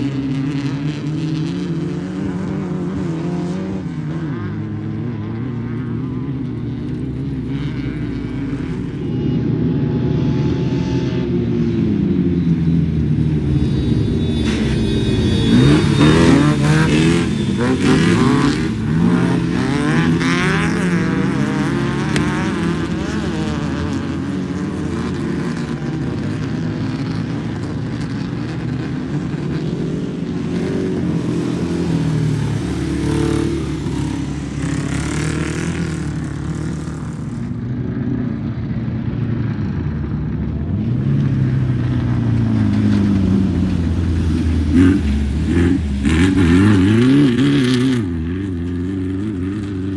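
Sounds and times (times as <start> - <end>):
race car engines revving past: 0.0 - 37.9, 39.5 - 49.9.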